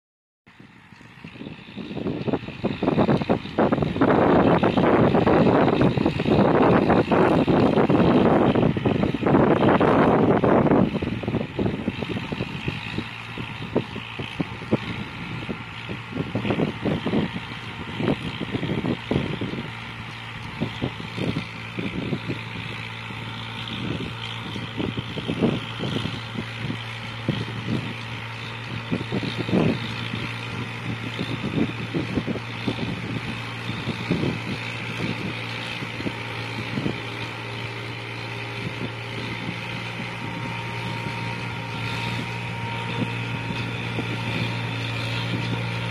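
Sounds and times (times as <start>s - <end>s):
tractor engine running: 0.5s - 45.9s.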